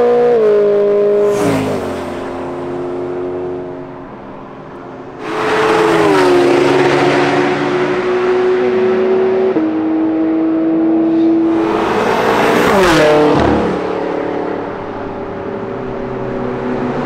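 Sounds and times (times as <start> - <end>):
race cars passing at high revs: 0.0 - 17.0.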